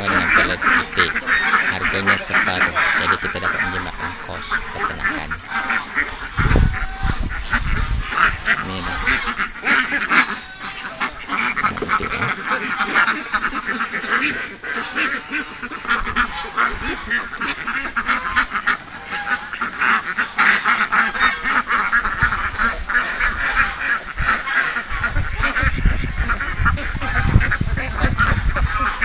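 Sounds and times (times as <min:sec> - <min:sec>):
ducks quacking: 0:00.0 - 0:29.0.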